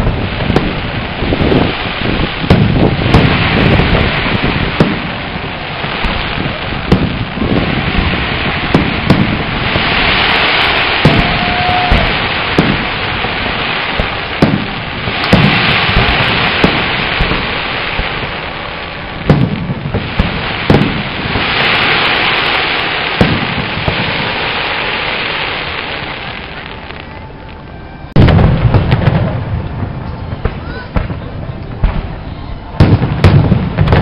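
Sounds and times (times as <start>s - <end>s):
fireworks bangs: 0.0s - 34.0s
fireworks hissing crackle: 0.0s - 34.0s.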